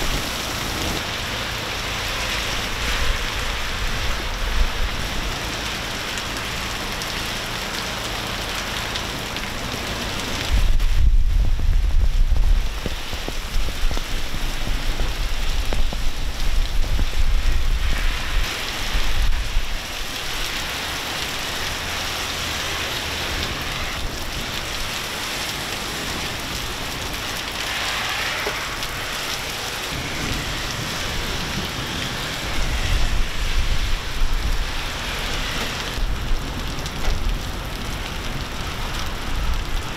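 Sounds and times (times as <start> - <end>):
heavy rain and hail drumming: 0.0 - 39.9.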